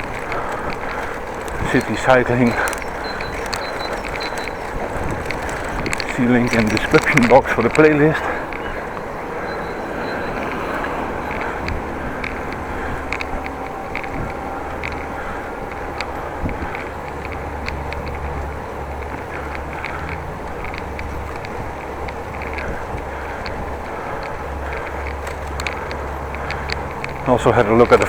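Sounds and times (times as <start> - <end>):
bicycle clicks and rattles: 0.0 - 28.0
road rumble: 0.0 - 28.0
wind on microphone: 0.0 - 28.0.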